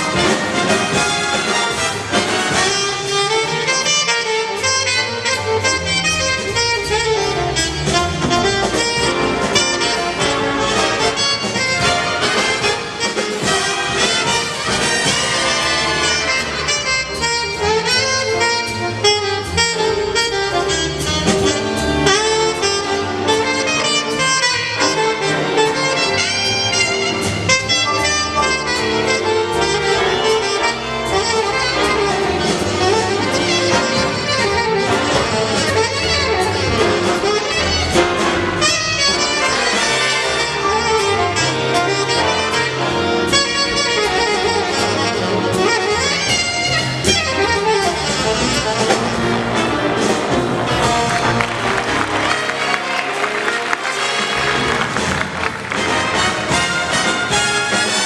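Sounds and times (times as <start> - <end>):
big band playing jazz: 0.0 - 58.0
saxophone and brass sections: 0.0 - 58.0
steady drum groove: 0.0 - 58.0.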